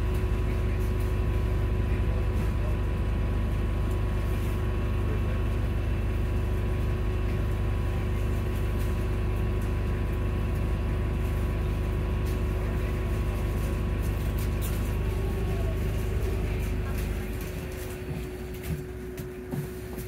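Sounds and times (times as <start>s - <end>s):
bus engine rumble and hum: 0.0s - 20.0s.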